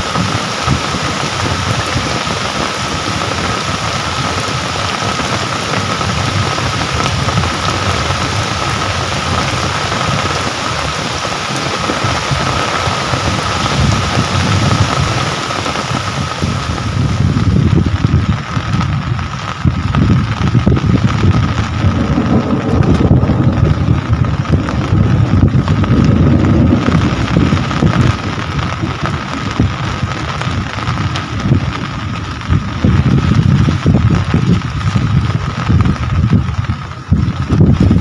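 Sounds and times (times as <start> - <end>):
rain falling: 0.0 - 38.0
wind buffeting microphone: 0.0 - 38.0.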